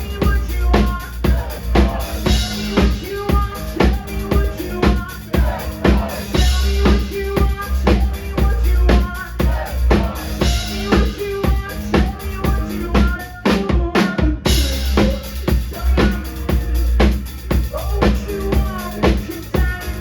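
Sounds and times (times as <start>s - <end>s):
drum kit beat: 0.0s - 20.0s.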